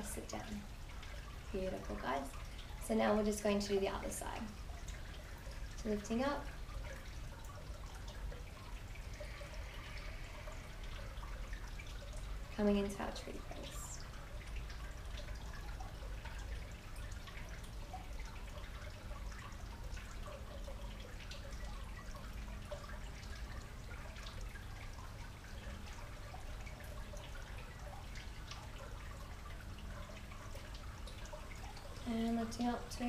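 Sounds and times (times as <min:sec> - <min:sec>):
low steady rumble: 0:00.0 - 0:33.0
water trickling and dripping: 0:00.0 - 0:33.0.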